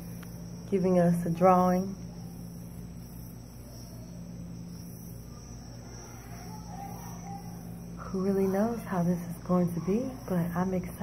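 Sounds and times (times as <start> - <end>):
high insect-like chirring: 0.0 - 11.0
low background hum: 0.0 - 11.0.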